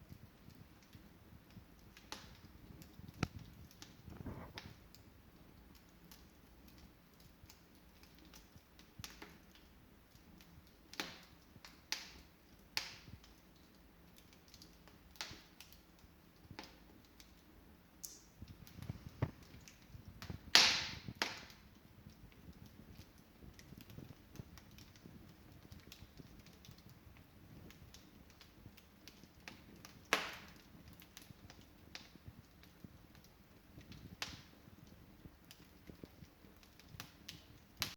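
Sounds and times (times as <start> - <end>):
fire snaps and pops: 0.0 - 37.9
wood fire crackling: 0.0 - 37.9.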